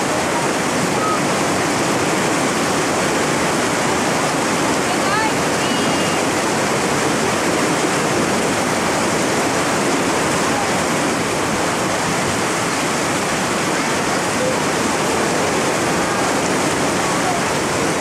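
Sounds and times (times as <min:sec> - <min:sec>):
white water rushing over boulders: 0:00.0 - 0:18.0.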